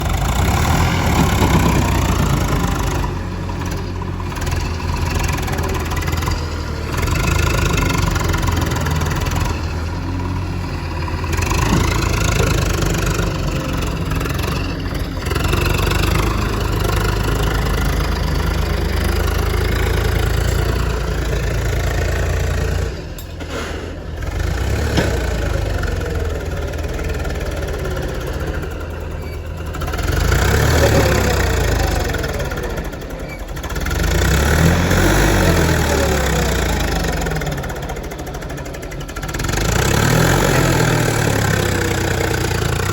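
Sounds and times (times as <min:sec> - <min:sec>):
diesel engines revving: 0:00.0 - 0:42.9.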